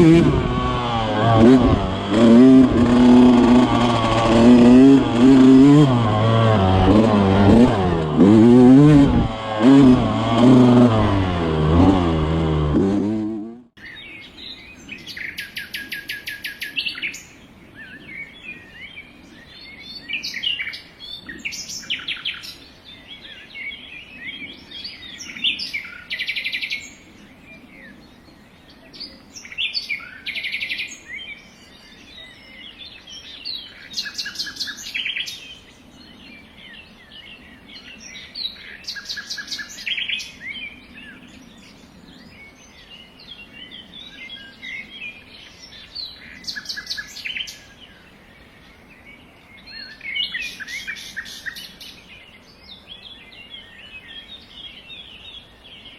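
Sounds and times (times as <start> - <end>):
wild birds chirping and trilling: 0.0 - 55.9.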